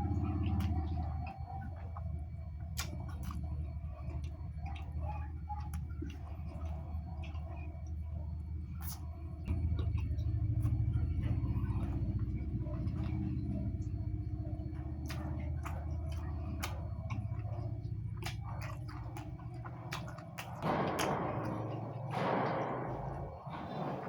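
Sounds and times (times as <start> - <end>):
person chewing food: 0.0 - 21.7
steady low hum: 0.0 - 24.0.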